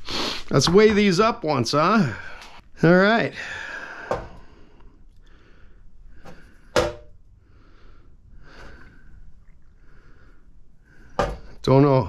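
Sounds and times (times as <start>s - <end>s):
person breathing: 0.0s - 0.6s, 2.0s - 11.6s.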